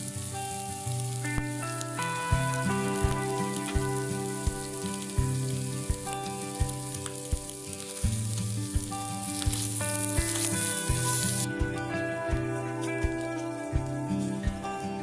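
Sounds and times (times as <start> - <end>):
background music with a beat: 0.0 - 15.0
meat sizzling in a frying pan: 0.0 - 15.0.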